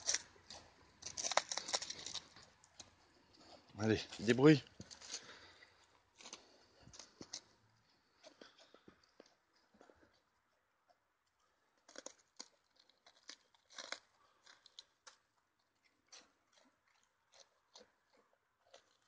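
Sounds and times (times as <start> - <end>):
sheep chewing crunches: 0.0 - 10.3, 11.8 - 19.0.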